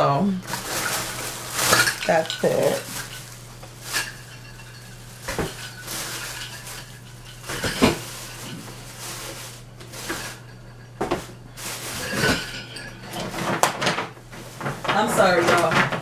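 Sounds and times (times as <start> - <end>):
low steady hum: 0.0 - 16.0
items clinking and knocking: 0.4 - 16.0
plastic bag rustling: 0.4 - 16.0.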